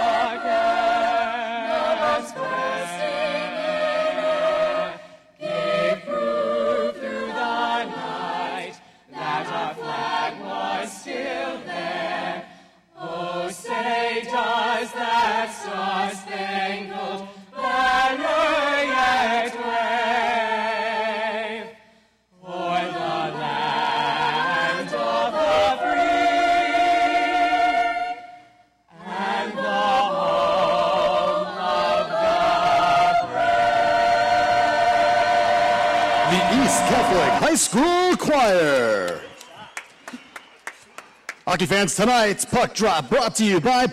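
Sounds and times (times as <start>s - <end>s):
choir singing: 0.0s - 21.8s, 22.4s - 39.3s.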